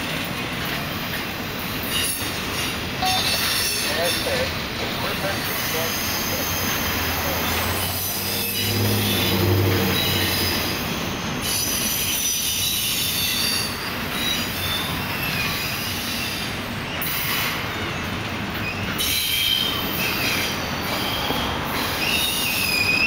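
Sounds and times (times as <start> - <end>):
freight train cars rumbling: 0.0 - 23.0
steel wheels squealing: 1.6 - 23.0.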